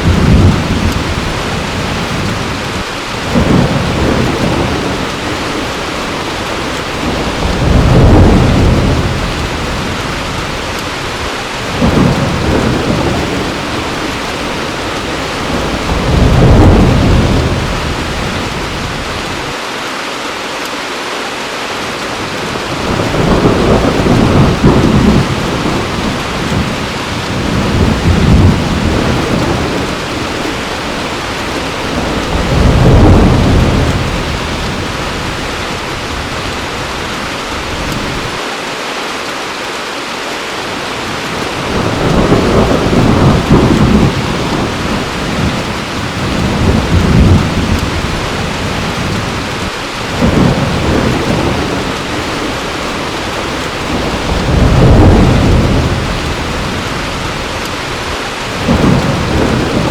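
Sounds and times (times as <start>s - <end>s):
thunder rolling and rumbling: 0.0s - 19.6s, 22.2s - 38.4s, 40.9s - 59.9s
heavy rain falling: 0.0s - 59.9s.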